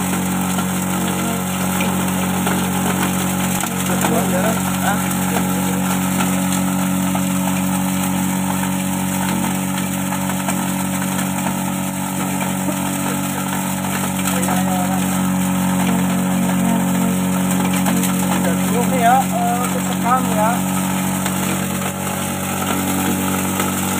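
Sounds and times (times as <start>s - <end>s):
electric grinder grinding husks: 0.0s - 23.9s.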